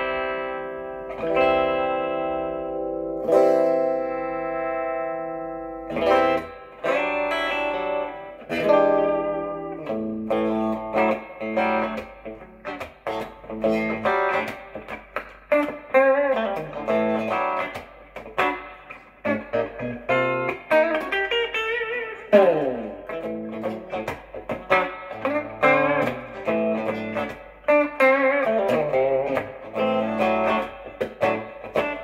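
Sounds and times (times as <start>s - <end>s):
electric guitar riff: 0.0s - 32.0s.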